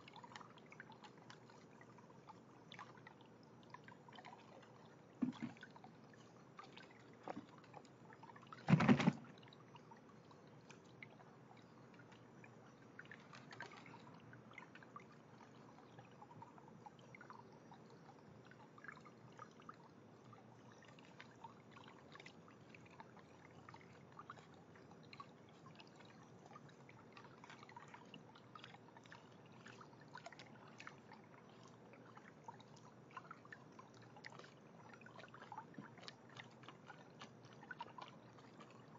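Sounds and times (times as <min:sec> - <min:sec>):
small water splashes: 0:00.0 - 0:38.9.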